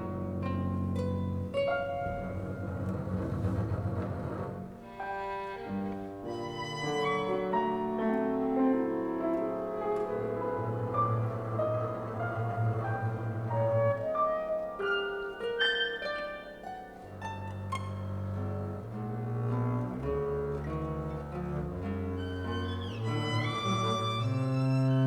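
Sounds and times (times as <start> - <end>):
bowed strings: 0.0 - 25.0
piano: 0.0 - 25.0.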